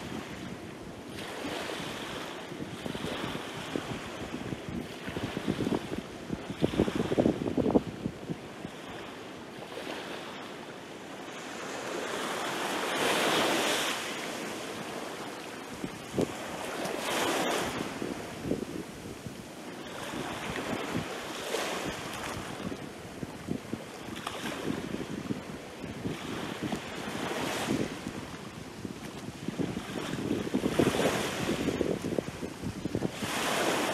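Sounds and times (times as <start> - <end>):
small waves breaking on beach: 0.0 - 33.9.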